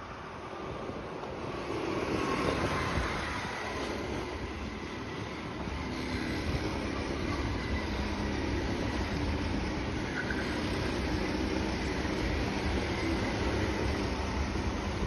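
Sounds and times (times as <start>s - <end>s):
go-kart engines droning: 0.0s - 15.0s.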